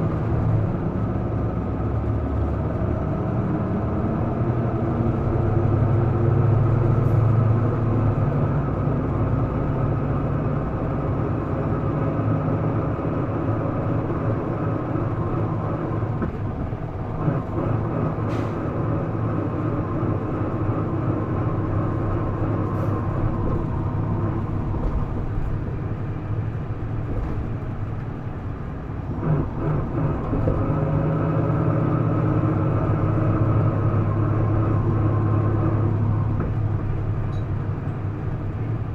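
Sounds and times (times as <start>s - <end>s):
bus diesel engine under load: 0.0s - 38.9s.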